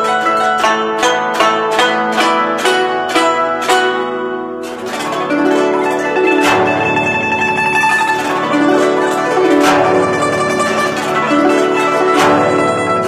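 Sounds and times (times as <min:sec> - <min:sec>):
plucked zither runs: 0:00.0 - 0:13.0
sweeping strum across strings: 0:00.0 - 0:13.0.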